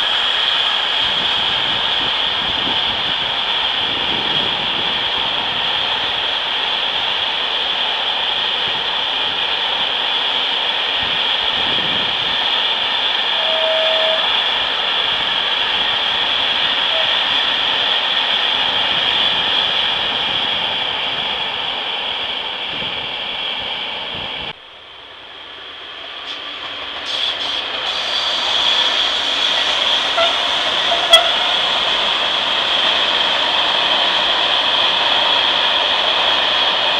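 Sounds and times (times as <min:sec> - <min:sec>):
train passing on track: 0:00.0 - 0:36.9.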